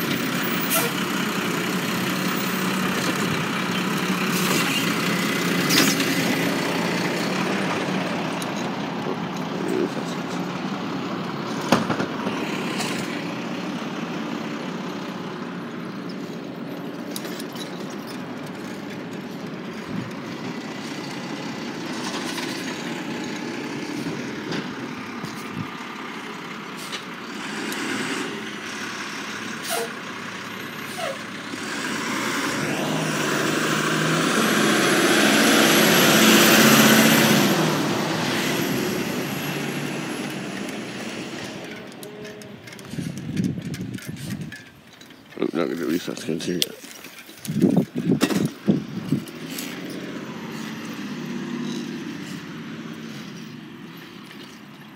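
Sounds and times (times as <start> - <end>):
garbage truck engine running: 0.0 - 54.9.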